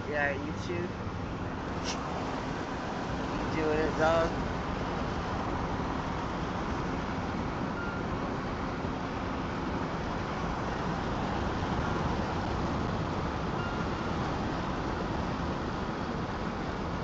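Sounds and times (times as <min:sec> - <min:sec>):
car road noise: 0:00.0 - 0:17.0.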